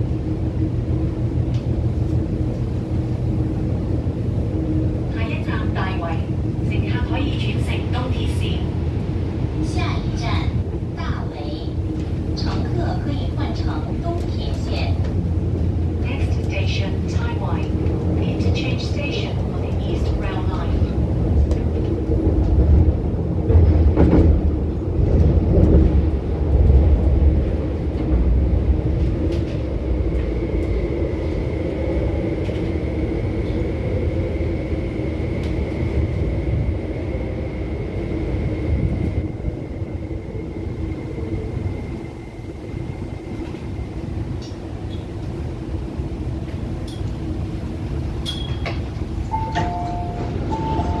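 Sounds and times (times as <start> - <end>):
electric train rumbling: 0.0 - 51.0.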